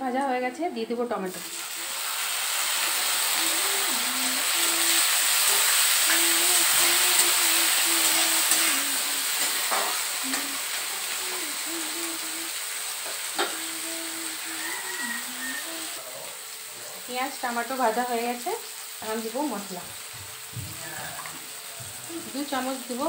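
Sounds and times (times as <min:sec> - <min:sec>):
vegetables sizzling in hot oil: 0:00.1 - 0:23.0.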